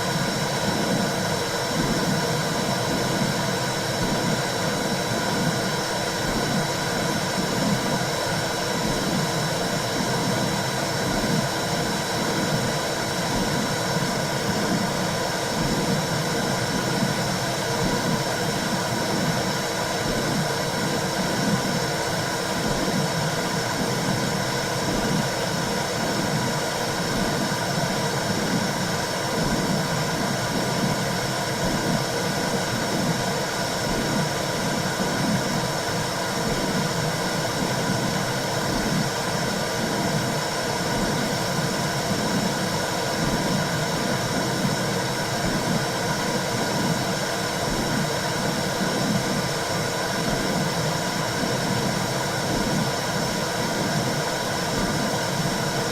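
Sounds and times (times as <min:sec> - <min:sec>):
soft rhythmic pulse: 0:00.0 - 0:55.9.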